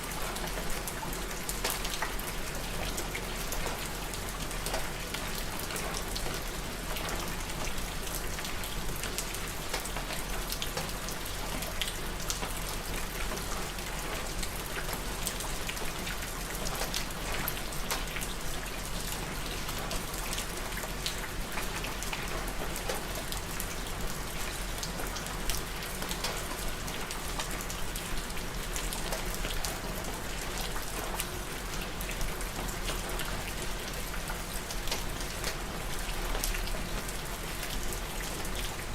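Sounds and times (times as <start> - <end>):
rain pattering on surfaces: 0.0 - 38.9.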